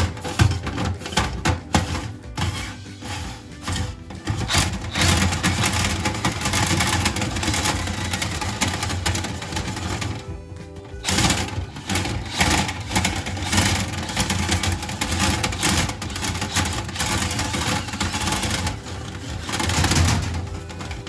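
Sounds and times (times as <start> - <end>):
brush scrubbing duct walls: 0.0 - 21.0.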